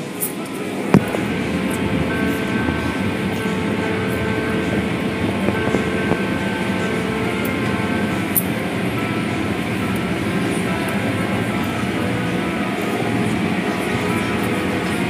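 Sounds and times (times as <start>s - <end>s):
car wash machinery noise: 0.0s - 15.0s.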